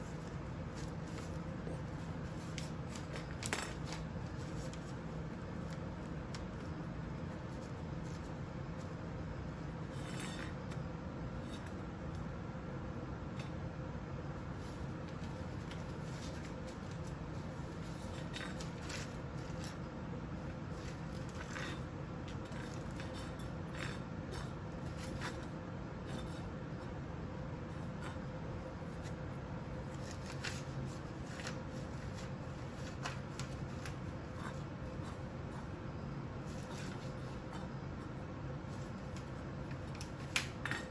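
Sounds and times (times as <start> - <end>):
low room hum: 0.0 - 40.9.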